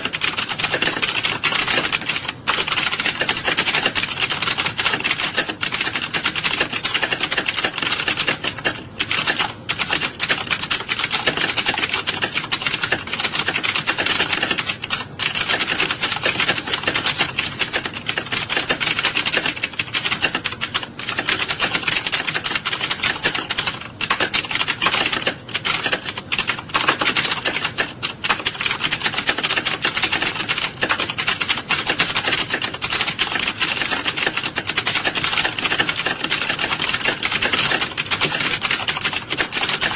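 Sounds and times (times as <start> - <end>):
keyboard typing clatter: 0.0 - 39.9.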